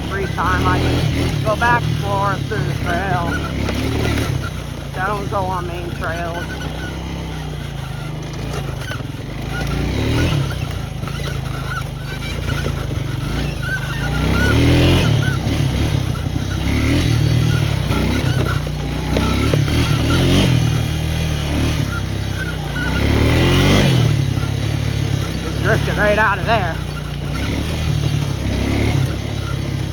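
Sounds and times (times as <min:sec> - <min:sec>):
atv engine revving: 0:00.0 - 0:29.9.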